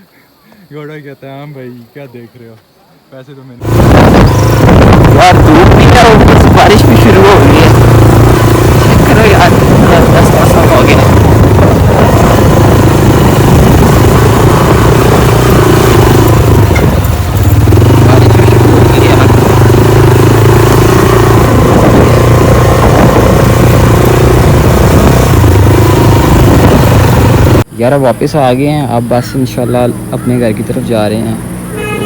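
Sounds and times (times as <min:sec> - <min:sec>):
vehicle engine running: 0:03.6 - 0:32.0.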